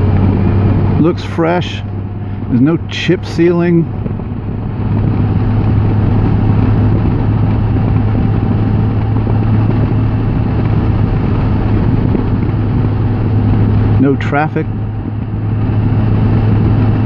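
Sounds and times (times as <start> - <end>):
motorcycle engine drone: 0.0 - 17.0
wind and road noise: 0.0 - 17.0.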